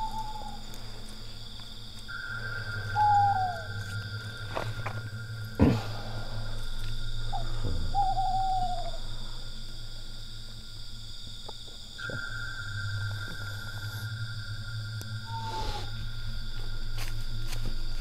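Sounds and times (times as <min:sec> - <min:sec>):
owl hooting: 0:00.0 - 0:10.6, 0:11.9 - 0:18.0
night insects droning: 0:00.0 - 0:18.0.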